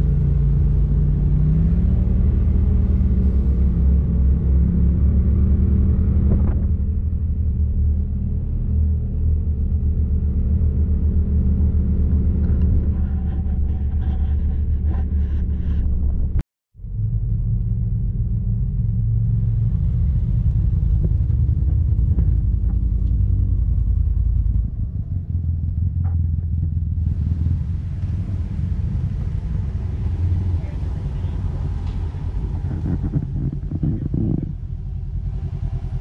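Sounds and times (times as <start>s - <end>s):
utility vehicle engine rumbling: 0.0s - 36.0s.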